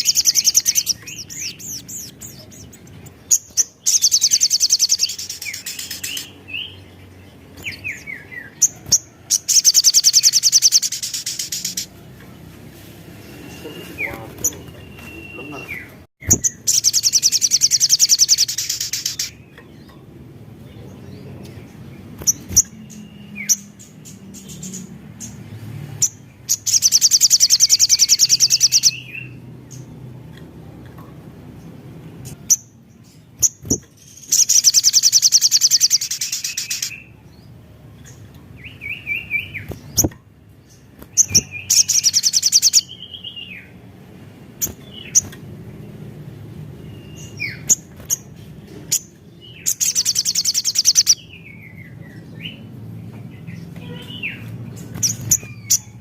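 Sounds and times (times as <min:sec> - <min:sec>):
bird chirps and clicks: 0:00.0 - 0:06.4, 0:07.4 - 0:12.4, 0:14.1 - 0:20.1, 0:21.4 - 0:25.4, 0:26.0 - 0:32.7, 0:33.4 - 0:37.0, 0:38.0 - 0:43.4, 0:44.6 - 0:45.5, 0:47.2 - 0:51.2, 0:53.1 - 0:56.0.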